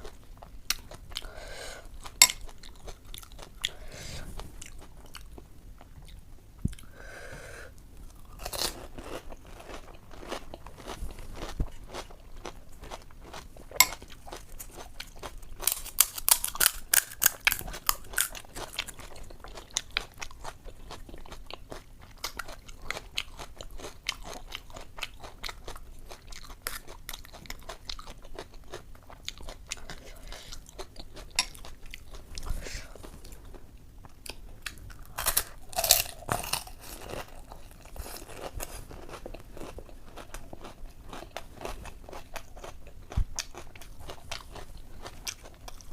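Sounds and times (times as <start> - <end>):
crunching and chewing crisp shells: 0.0 - 7.0, 7.7 - 45.9.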